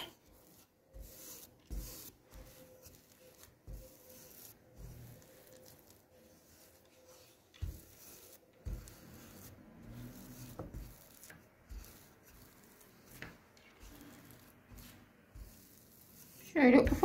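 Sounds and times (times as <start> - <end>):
rolling pin rubbing on dough: 0.0 - 17.0.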